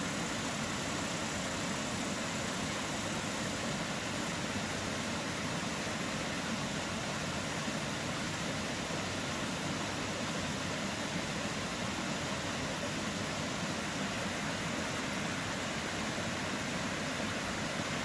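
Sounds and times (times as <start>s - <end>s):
stream flowing over rocks: 0.0s - 18.0s.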